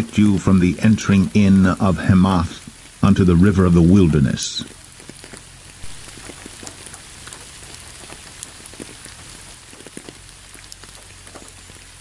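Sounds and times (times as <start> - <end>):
drops ticking: 0.0 - 12.0
steady rain falling: 0.0 - 12.0.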